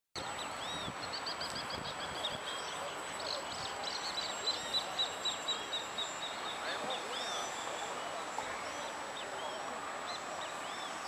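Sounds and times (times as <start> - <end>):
outdoor background noise: 0.2 - 11.0
small birds chirping: 0.2 - 11.0.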